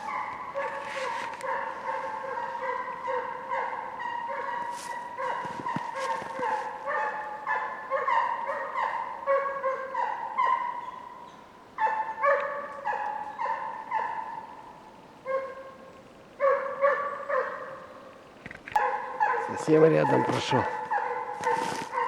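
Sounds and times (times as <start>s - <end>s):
hounds baying: 0.0s - 11.2s, 11.8s - 18.0s, 18.8s - 22.0s.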